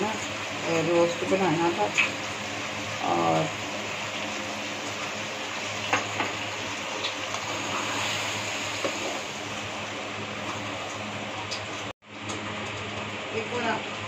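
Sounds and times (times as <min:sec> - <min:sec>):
curry sizzling in a pan: 0:00.0 - 0:14.0.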